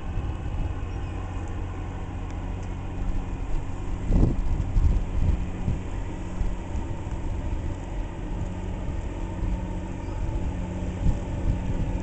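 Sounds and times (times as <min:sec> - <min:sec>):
ship engines humming: 0:00.0 - 0:12.0.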